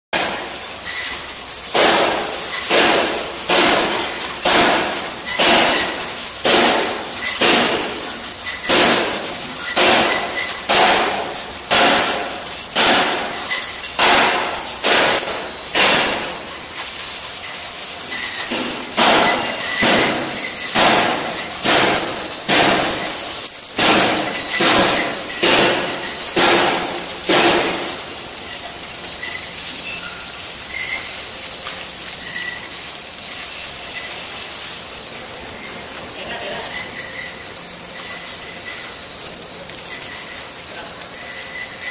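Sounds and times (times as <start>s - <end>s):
packing machine clacking: 0.2s - 41.9s.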